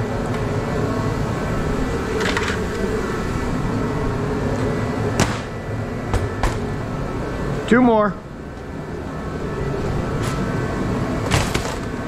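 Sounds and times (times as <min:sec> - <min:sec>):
blower heater hum: 0:00.0 - 0:12.0.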